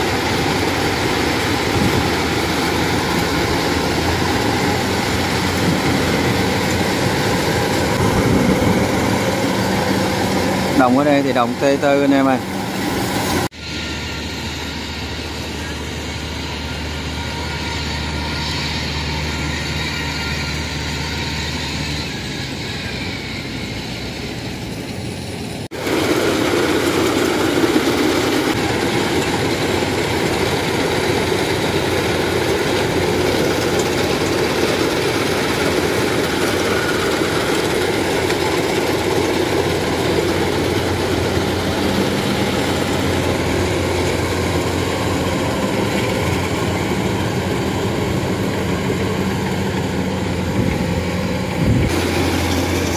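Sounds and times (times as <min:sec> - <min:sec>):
distant engine running: 0:00.0 - 0:24.8, 0:25.6 - 0:52.9
combine harvester running loudly: 0:00.0 - 0:52.9.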